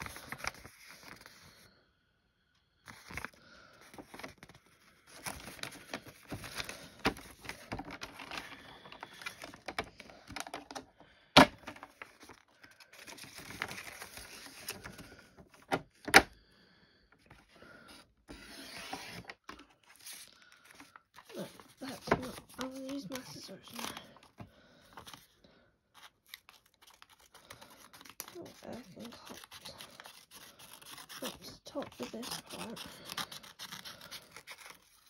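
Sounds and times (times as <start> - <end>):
rustling of craft pieces: 2.9 - 11.0, 11.6 - 16.0, 17.2 - 25.3, 25.9 - 35.0.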